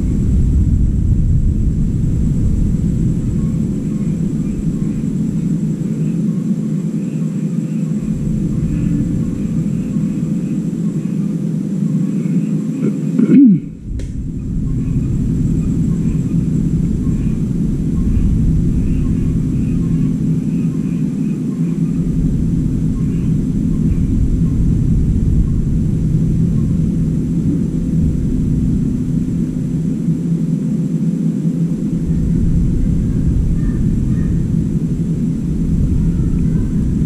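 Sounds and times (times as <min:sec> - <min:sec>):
low mechanical hum: 0:00.0 - 0:37.0
low rumble: 0:00.0 - 0:37.0.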